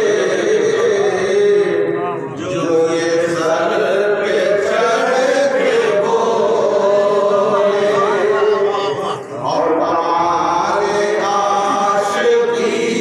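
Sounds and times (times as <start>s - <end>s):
men singing long gliding notes: 0.0s - 13.0s.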